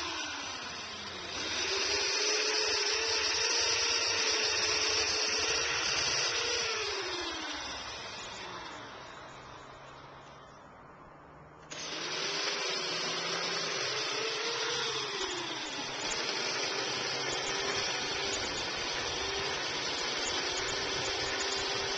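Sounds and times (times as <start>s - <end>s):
chainsaw running: 0.0s - 10.4s, 11.6s - 21.9s.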